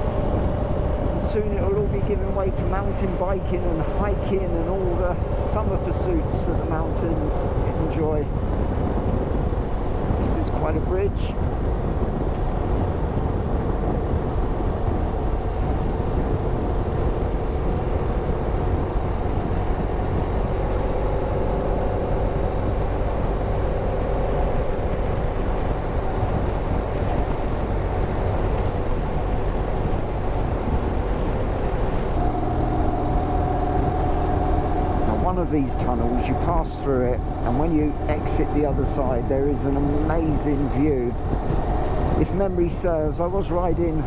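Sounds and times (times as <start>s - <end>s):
motorcycle engine cruising: 0.0s - 44.0s
road and wind noise: 0.0s - 44.0s.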